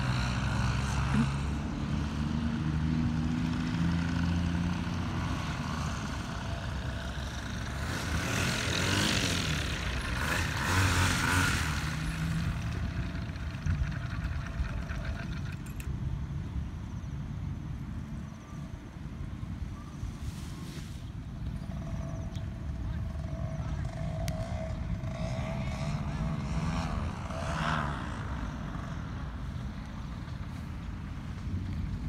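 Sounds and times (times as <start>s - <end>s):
paramotor engine and propeller: 0.0s - 32.0s.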